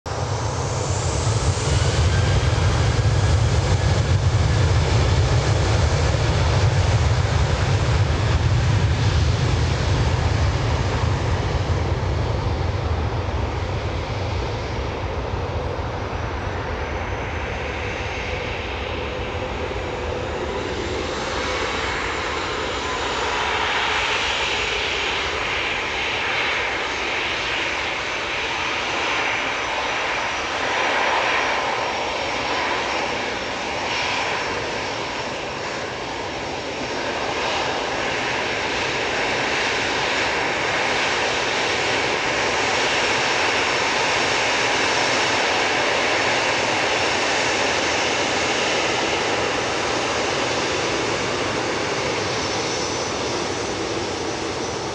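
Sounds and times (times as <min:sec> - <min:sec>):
jet engines rumbling: 0:00.1 - 0:54.9.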